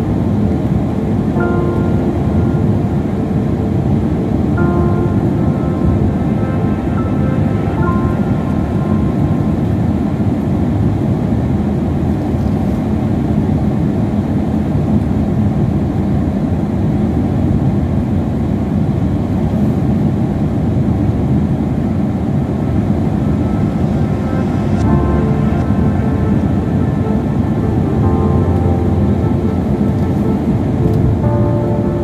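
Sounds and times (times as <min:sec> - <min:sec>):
road and engine rumble in car: 0:00.0 - 0:32.0.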